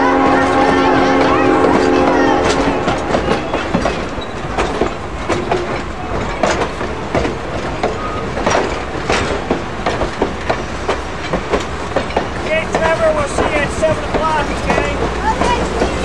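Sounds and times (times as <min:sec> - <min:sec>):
train low rumble: 0:00.0 - 0:16.0
train wheels clicking over rail joints: 0:00.1 - 0:16.0.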